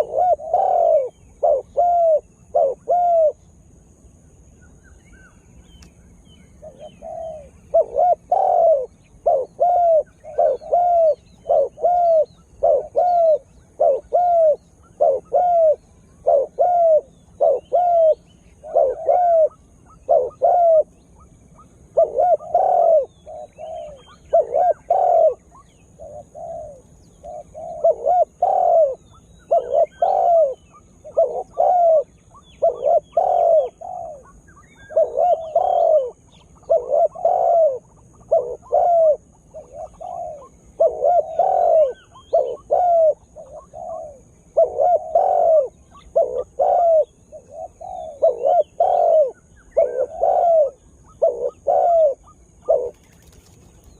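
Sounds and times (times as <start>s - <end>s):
dove cooing: 0.0s - 3.5s, 6.5s - 53.9s.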